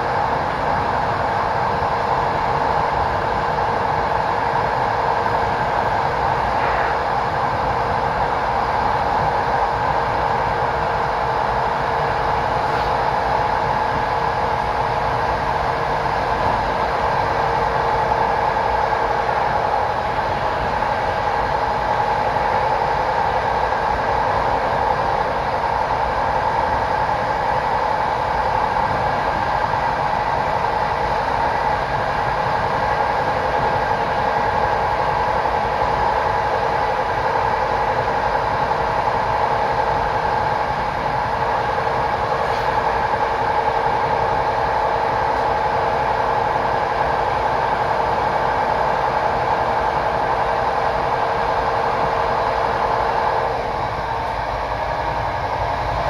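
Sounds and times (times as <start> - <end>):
constant train whine: 0.0 - 56.0
train running with rumble: 0.0 - 56.0.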